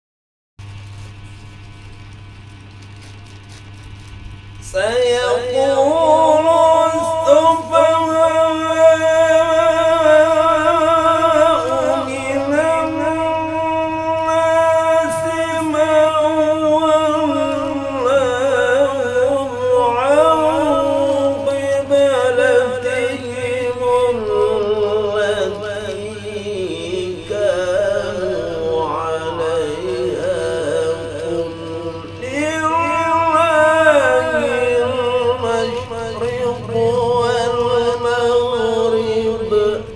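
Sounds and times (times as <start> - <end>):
man chanting recitation: 4.4 - 39.9.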